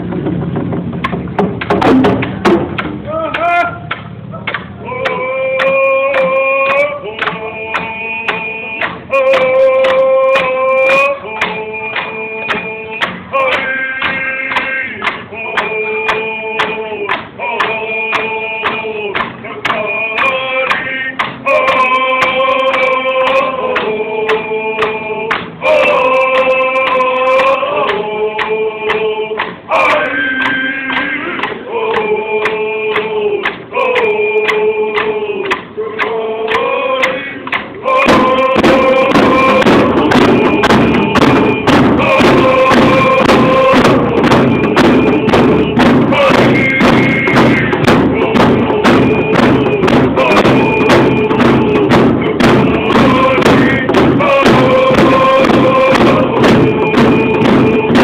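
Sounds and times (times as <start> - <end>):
hand drums beating: 0.0 - 58.0
group singing in unison: 2.1 - 58.0.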